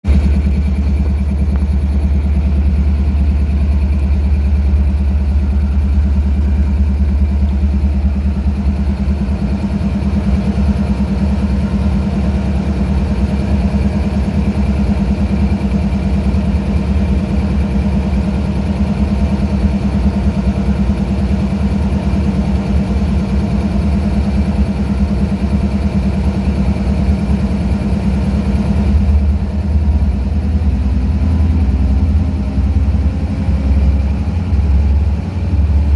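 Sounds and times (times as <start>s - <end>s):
air compressor chugging: 0.0s - 35.9s
locomotive engine running: 0.0s - 35.9s.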